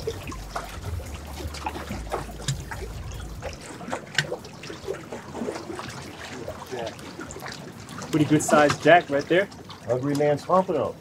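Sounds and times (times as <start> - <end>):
wind rumbling on microphone: 0.0 - 9.8
fish splashing at the surface: 0.0 - 10.4
water lapping against rocks: 0.0 - 11.0.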